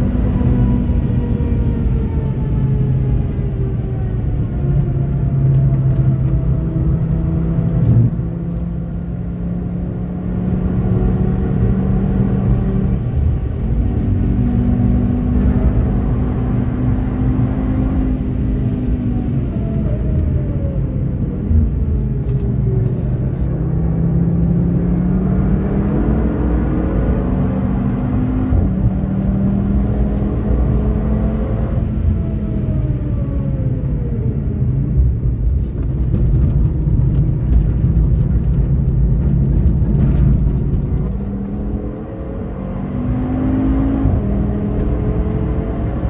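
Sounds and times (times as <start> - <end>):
car engine from inside cabin: 0.0 - 46.0.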